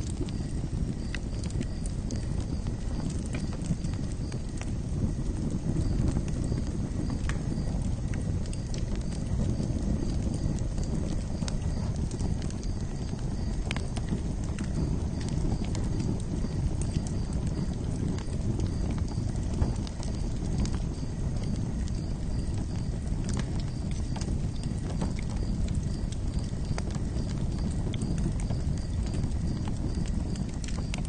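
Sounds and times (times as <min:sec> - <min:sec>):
campfire flames rumbling: 0:00.0 - 0:31.0
fire crackles and pops: 0:00.0 - 0:31.0.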